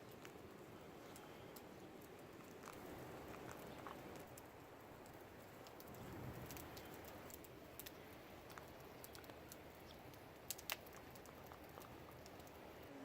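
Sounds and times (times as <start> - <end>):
campfire crackling and popping: 0.0 - 12.9.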